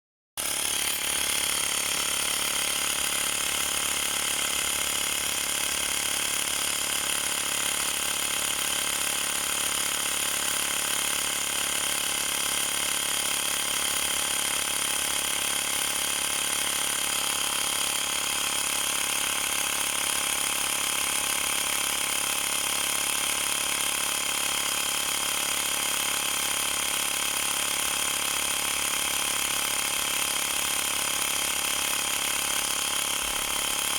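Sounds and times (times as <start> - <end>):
electric air pump motor buzzing: 0.4 - 33.9.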